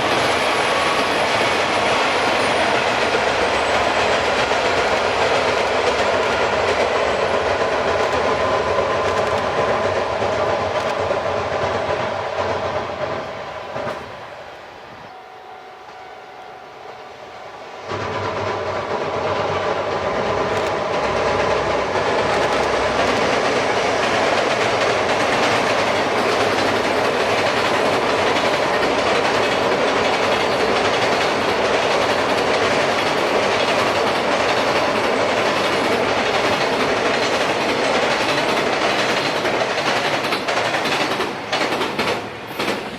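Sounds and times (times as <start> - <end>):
train wheel clatter: 0.0 - 14.3, 17.8 - 42.9
train rumbling over steel bridge: 0.0 - 42.9.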